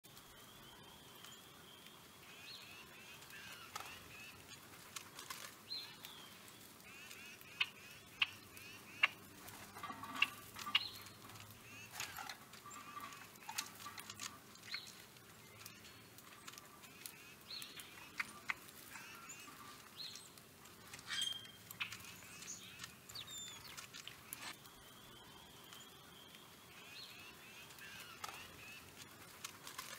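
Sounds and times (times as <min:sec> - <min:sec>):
wild birds chirping: 0:00.1 - 0:29.9.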